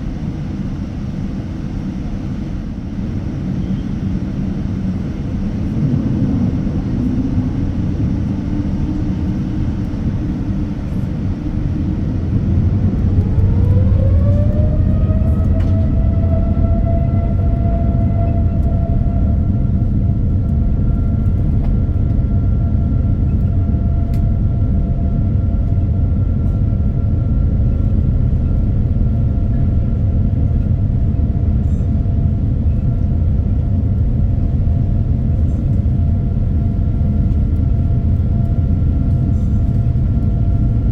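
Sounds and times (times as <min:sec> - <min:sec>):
jet engines heard from cabin: 0:00.0 - 0:40.9
rising engine whine: 0:00.0 - 0:40.9.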